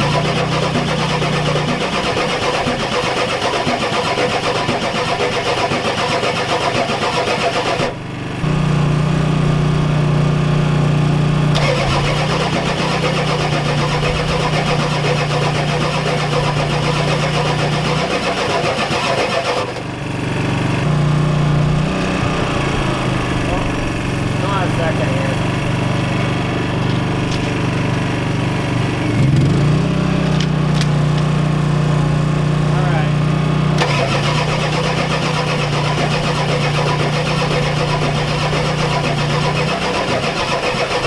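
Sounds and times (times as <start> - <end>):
diesel engine cranking on starter: 0.0 - 9.6, 11.4 - 31.4, 33.7 - 41.0.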